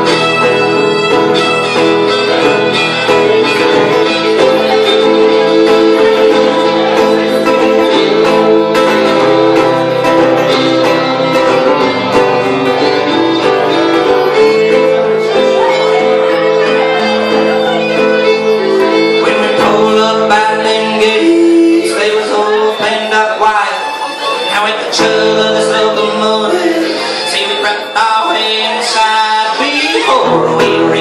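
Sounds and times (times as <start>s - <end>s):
bowed fiddle: 0.0s - 31.0s
strummed guitar: 0.0s - 31.0s.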